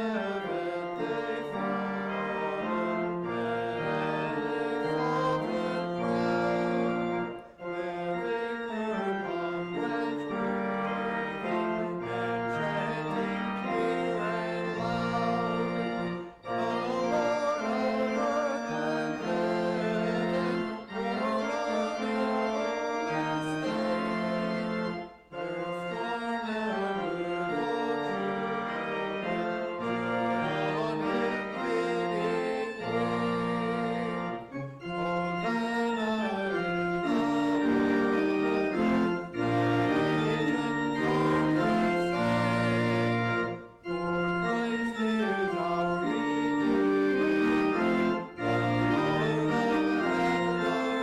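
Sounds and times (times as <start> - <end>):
organ playing slow chords: 0.0 - 51.0.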